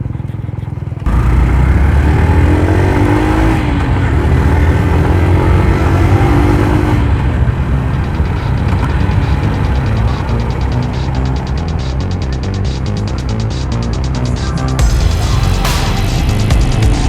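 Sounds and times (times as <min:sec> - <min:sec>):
wind and road noise: 0:00.0 - 0:14.9
motorcycle engine running: 0:00.0 - 0:17.0.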